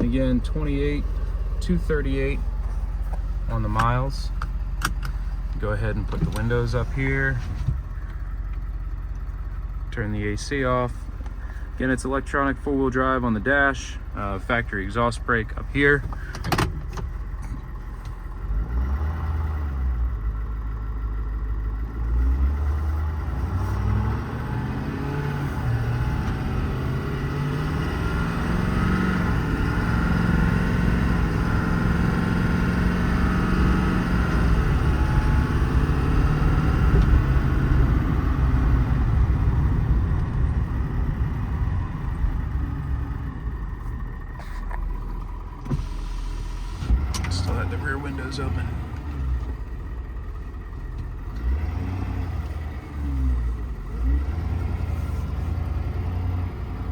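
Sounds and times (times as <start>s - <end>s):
diesel truck engine accelerating: 0.0s - 56.9s
road noise: 0.0s - 56.9s.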